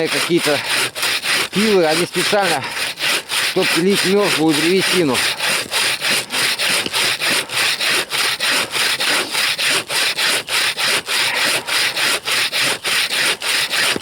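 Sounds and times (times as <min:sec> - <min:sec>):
bow saw cutting wood: 0:00.0 - 0:14.0.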